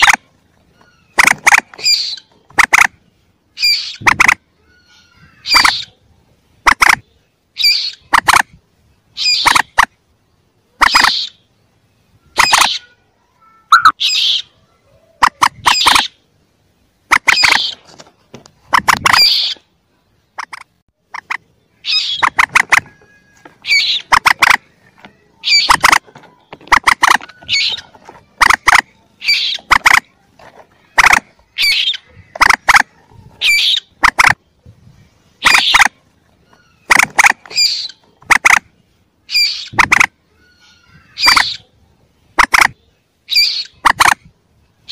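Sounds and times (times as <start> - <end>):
moorhen calls: 0.0 - 10.0, 10.6 - 16.4, 17.0 - 17.9, 18.6 - 34.6, 35.3 - 44.9.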